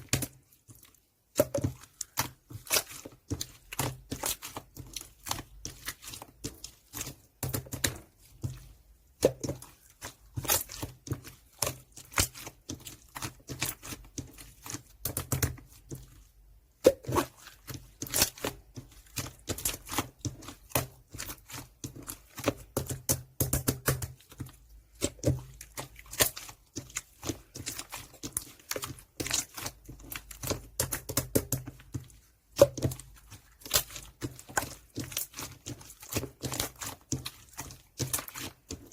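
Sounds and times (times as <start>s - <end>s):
slime squishing with clicks and pops: 0.0s - 38.9s.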